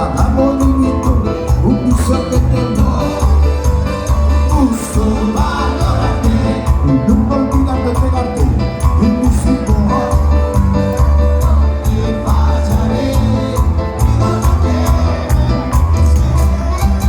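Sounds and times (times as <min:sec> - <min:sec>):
bass pulses: 0:00.0 - 0:17.0
fast band music: 0:00.0 - 0:17.0
keyboard or accordion melody: 0:00.0 - 0:17.0.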